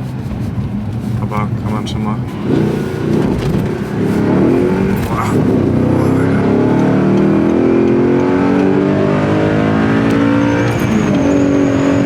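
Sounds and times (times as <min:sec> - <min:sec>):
car engine accelerating hard: 0:00.3 - 0:12.0.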